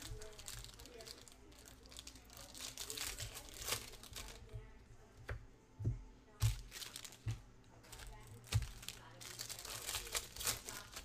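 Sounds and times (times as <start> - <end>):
card wrappers rustling: 0.0 - 4.6, 6.4 - 11.0.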